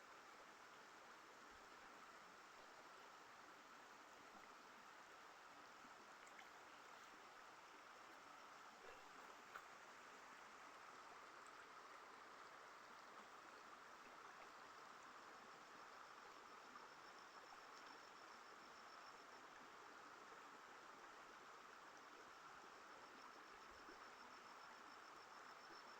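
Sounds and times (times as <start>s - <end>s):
faint high insect trill: 0.0s - 25.9s
faint outdoor hiss: 0.0s - 25.9s.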